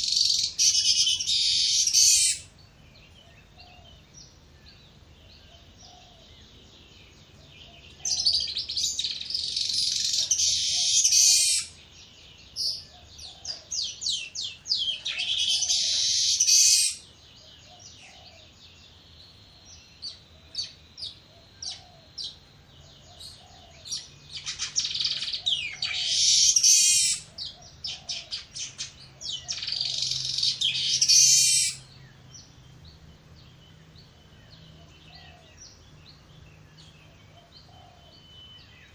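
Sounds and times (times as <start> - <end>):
weaver birds singing: 0.0 - 38.9.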